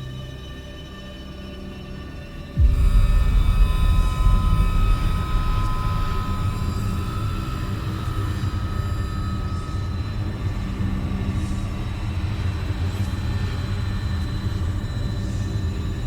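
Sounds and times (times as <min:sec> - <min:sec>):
deep rumbling drone: 0:00.0 - 0:16.0
thin sustained high tones: 0:02.6 - 0:16.0.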